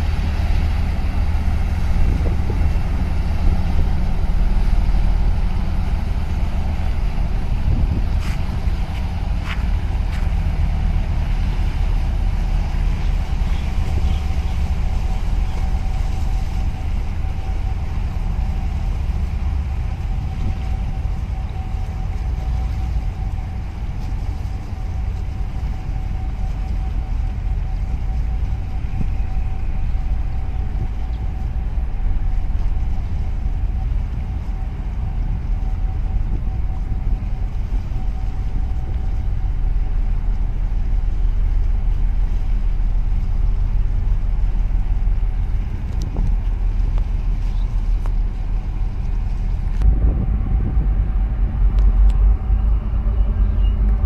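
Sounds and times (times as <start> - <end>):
boat engine rumbling: 0.0 - 54.0
thin steady whine: 0.0 - 54.0
wind on microphone: 0.0 - 54.0.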